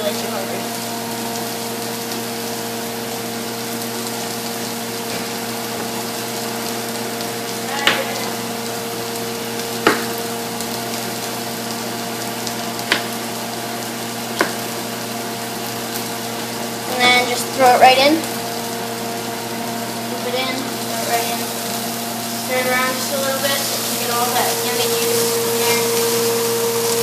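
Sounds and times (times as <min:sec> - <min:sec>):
stir fry sizzling in pan: 0:00.0 - 0:27.0.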